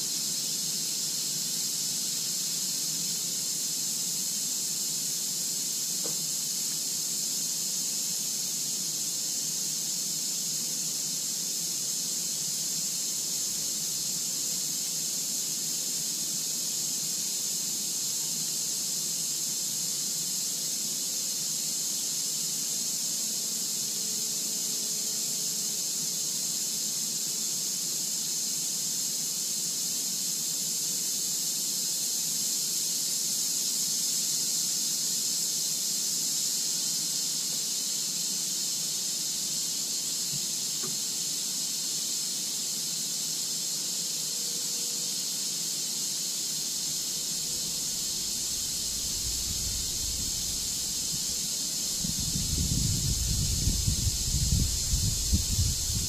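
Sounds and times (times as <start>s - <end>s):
steady high-pitched hiss: 0.0s - 56.0s.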